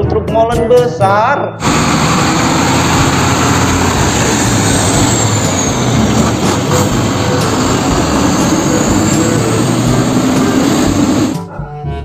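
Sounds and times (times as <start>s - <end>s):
truck engine running: 1.6s - 11.5s.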